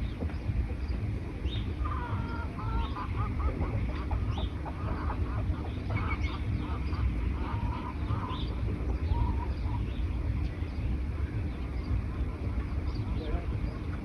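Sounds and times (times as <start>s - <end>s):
birds calling: 0.0s - 14.0s
steady low rumble: 0.0s - 14.0s.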